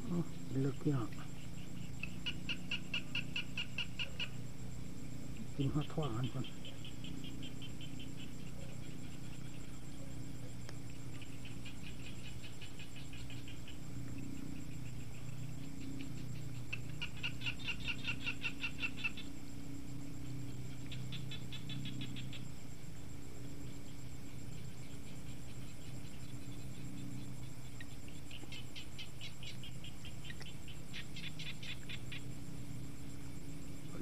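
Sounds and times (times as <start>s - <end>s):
frogs calling in pulses: 0.0s - 34.0s
low steady hum: 0.0s - 34.0s.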